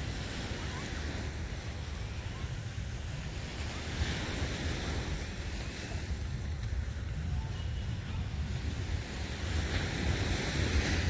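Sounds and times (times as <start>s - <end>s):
sea waves washing onto beach: 0.0s - 11.0s
wind buffeting microphone: 0.0s - 11.0s.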